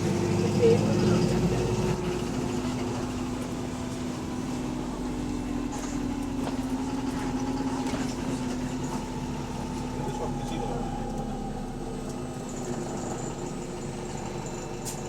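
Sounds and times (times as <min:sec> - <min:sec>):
diesel engine idling with rod knock: 0:00.0 - 0:15.0.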